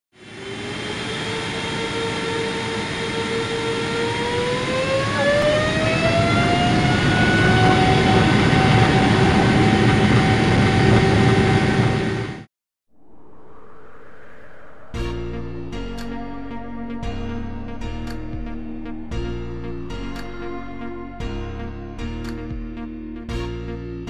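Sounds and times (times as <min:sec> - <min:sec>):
jet engine spooling up: 0:00.2 - 0:21.1.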